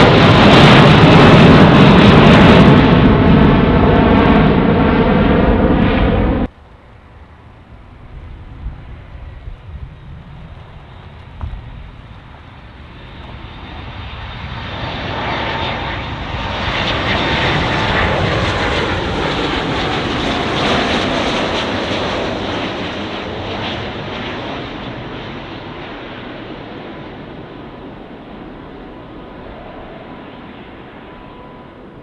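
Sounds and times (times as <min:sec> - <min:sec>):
jet plane passing close: 0:00.0 - 0:32.0.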